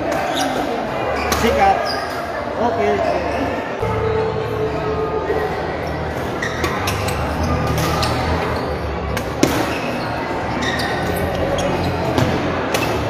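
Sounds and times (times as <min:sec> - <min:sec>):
low din of hall: 0:02.2 - 0:13.0.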